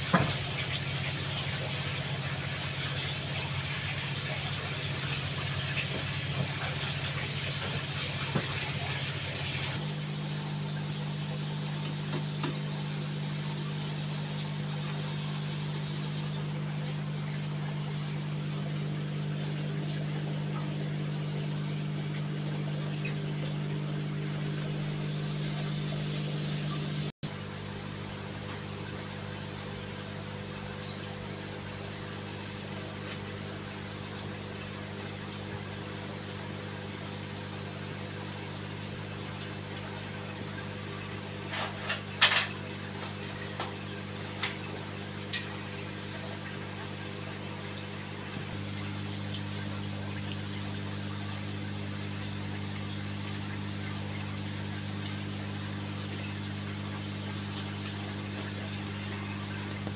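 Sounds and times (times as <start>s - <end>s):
aquarium pumps humming: 0.0s - 59.9s.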